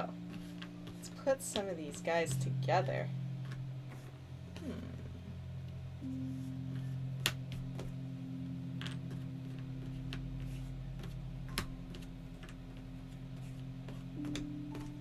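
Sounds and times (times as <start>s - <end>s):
steady low drone: 0.0s - 15.0s.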